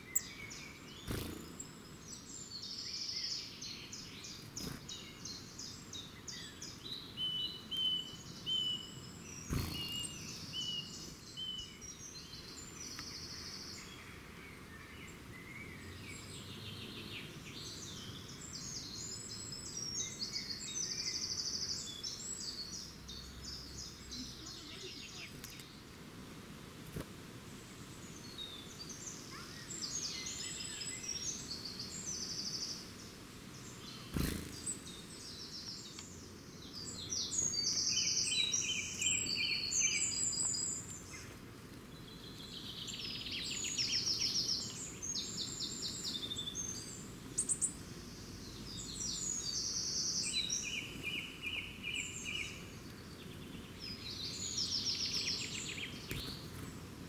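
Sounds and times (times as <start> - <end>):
birds singing trills and chirps: 0.0 - 26.0, 26.9 - 57.0.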